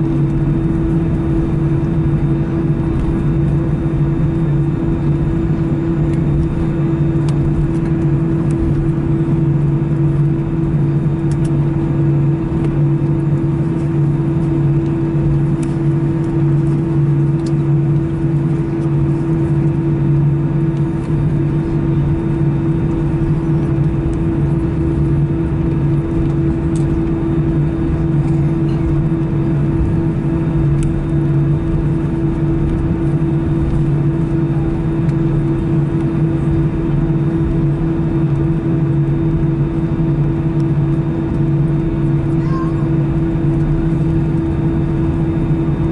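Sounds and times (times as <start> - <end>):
aircraft engines idling: 0.0 - 45.9.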